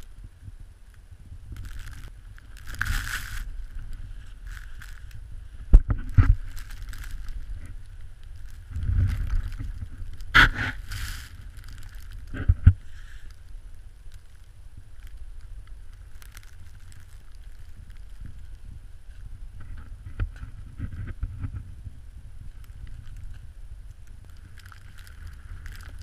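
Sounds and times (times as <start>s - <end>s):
low microphone rumble: 0.0s - 26.0s.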